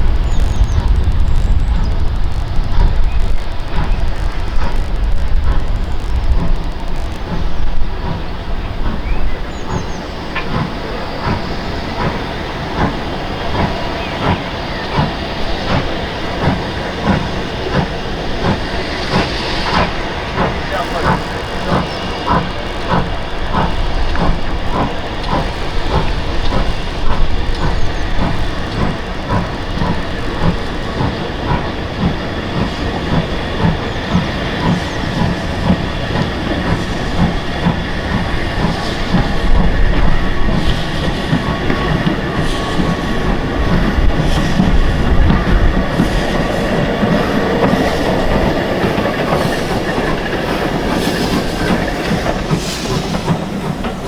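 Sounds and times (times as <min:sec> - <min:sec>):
train wheels clicking over rail joints: 0:00.0 - 0:54.0.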